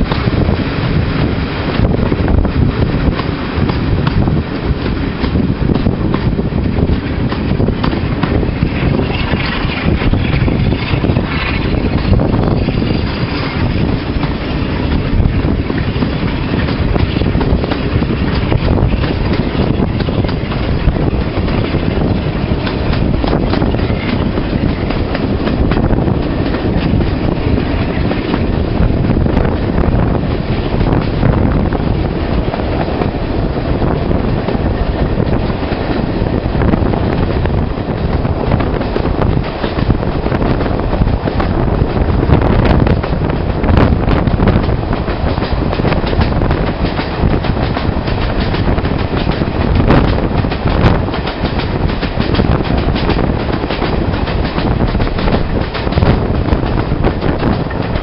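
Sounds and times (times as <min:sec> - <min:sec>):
diesel locomotive rumbling: 0:00.0 - 0:58.0
wind buffeting microphone: 0:00.0 - 0:58.0.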